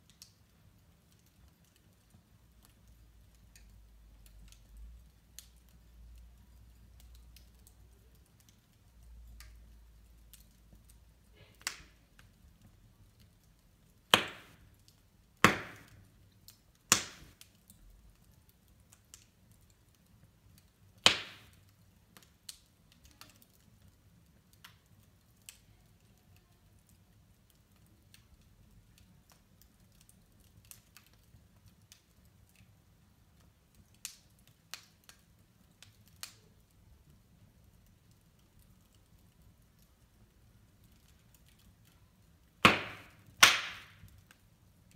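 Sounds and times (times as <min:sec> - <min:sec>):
log fire crackling: 0:00.0 - 0:44.9.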